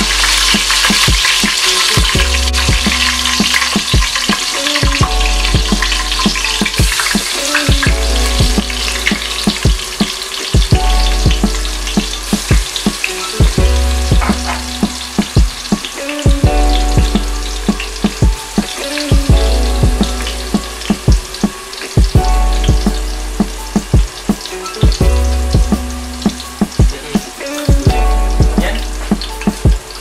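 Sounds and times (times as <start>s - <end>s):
background music: 0.0s - 30.0s
hot oil sizzling in a pot: 0.0s - 30.0s.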